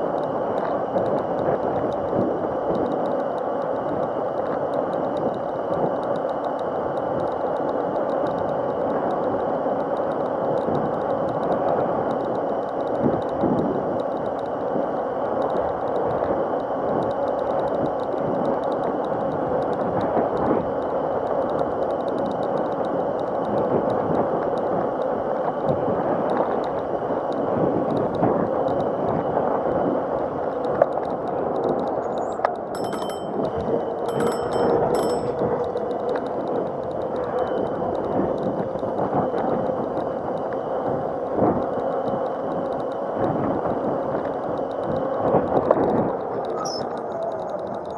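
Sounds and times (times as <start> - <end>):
tyre and wind noise: 0.0 - 47.9.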